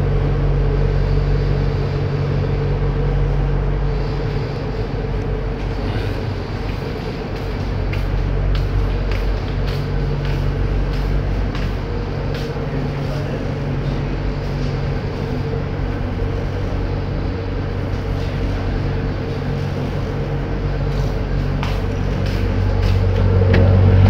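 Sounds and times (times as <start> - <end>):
ship engine low drone: 0.0 - 24.0.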